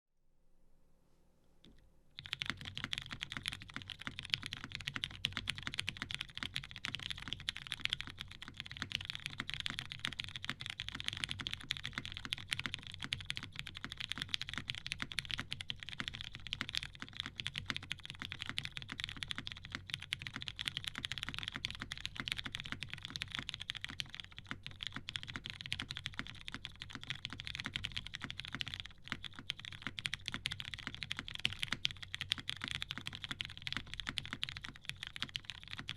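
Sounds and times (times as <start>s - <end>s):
mechanical keyboard typing: 1.6s - 35.9s.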